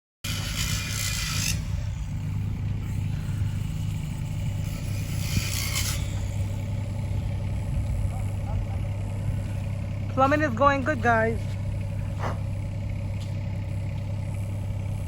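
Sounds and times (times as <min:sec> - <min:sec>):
engine humming: 0:00.2 - 0:15.0.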